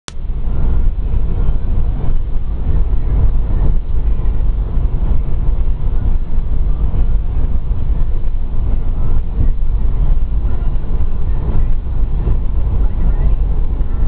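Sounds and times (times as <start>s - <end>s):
car road and engine rumble: 0.1s - 14.0s.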